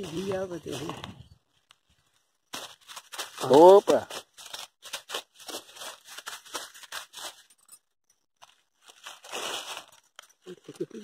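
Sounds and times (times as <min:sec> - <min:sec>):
dry grass and straw rustling: 0:00.0 - 0:07.8, 0:08.4 - 0:11.0.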